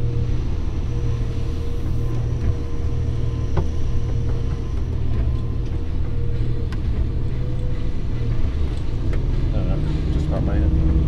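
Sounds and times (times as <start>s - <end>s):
diesel lorry engine running: 0.0s - 11.0s.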